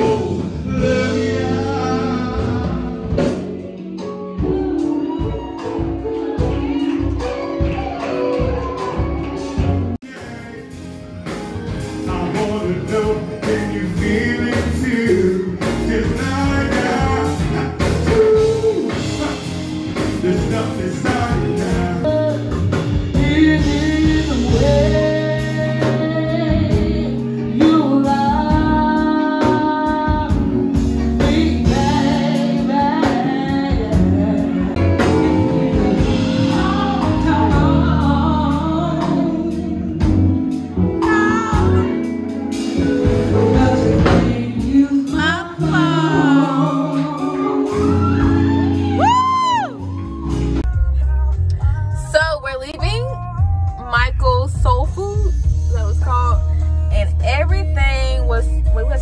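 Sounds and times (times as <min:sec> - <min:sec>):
electric guitar: 0:00.0 - 0:51.7
person singing: 0:00.0 - 0:55.6
drums: 0:00.0 - 0:59.0
keyboard: 0:00.0 - 0:59.0.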